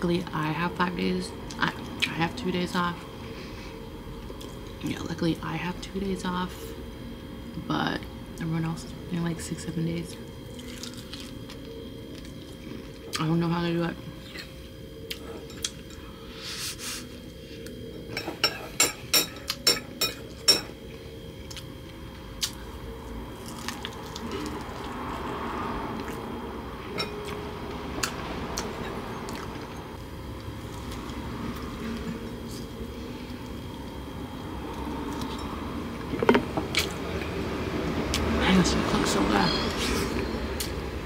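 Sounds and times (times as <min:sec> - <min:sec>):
low room noise: 0:00.0 - 0:41.0.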